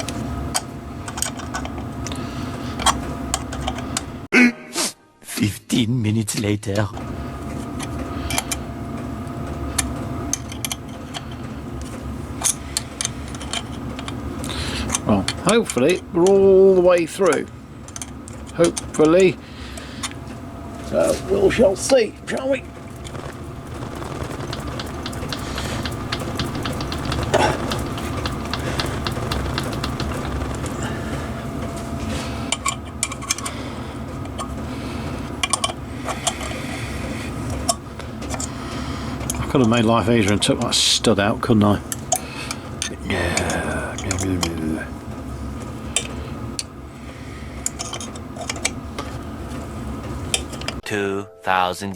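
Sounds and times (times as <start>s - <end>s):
low mechanical hum: 0.0s - 4.3s, 5.0s - 50.8s.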